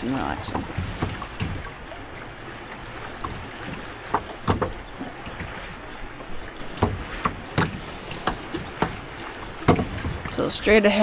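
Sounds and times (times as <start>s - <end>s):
sharp paddle splashes: 0.0s - 10.9s
water sloshing around a kayak: 0.0s - 11.0s.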